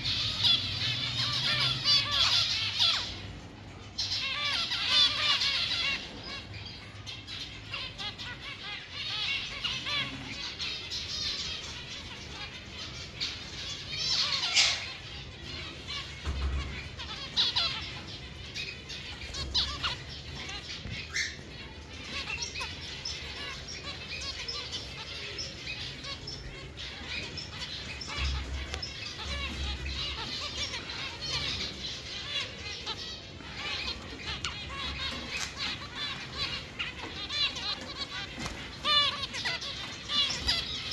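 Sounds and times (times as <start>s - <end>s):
caged birds chirping: 0.0s - 40.9s.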